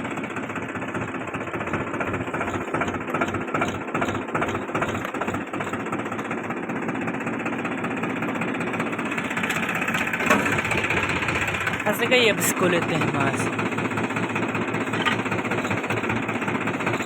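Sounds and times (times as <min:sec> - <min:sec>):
tractor diesel engine clattering: 0:00.0 - 0:17.0.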